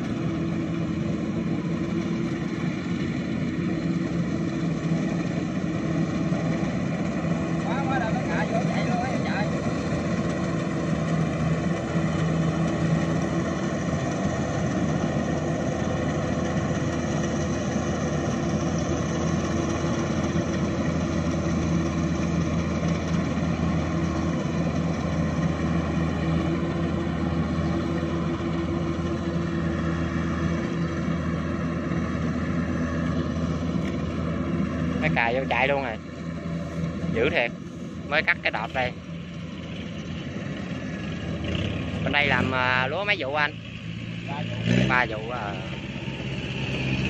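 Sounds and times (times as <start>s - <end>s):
combine harvester diesel engine droning: 0.0s - 47.0s.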